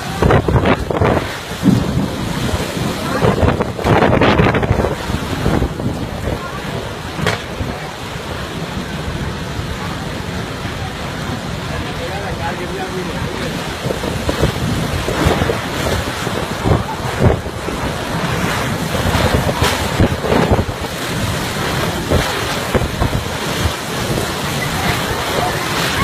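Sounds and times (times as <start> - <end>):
gusting wind: 0.0 - 26.0
torrential rain: 0.0 - 26.0
wind buffeting microphone: 0.0 - 26.0.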